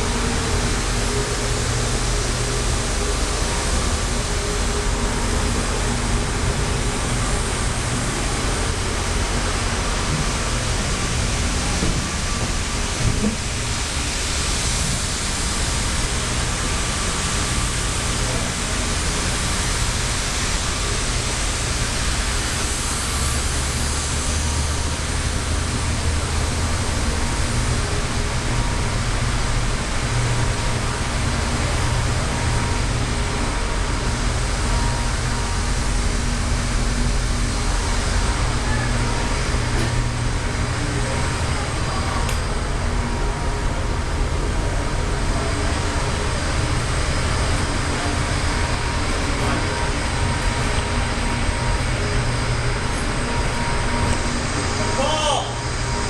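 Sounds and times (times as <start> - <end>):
constant hum and hiss: 0.0 - 56.0
low mechanical rumble: 0.0 - 56.0.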